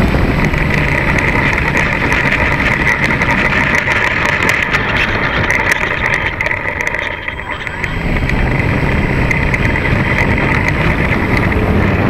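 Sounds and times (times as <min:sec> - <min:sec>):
electric motor and propeller running: 0:00.0 - 0:12.0
wheels rumbling over asphalt: 0:00.0 - 0:12.0.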